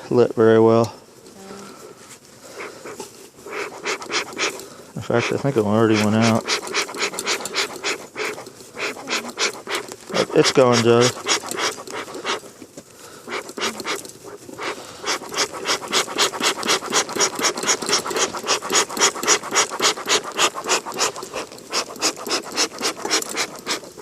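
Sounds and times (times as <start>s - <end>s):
bee smoker bellows puffing: 2.4s - 24.0s.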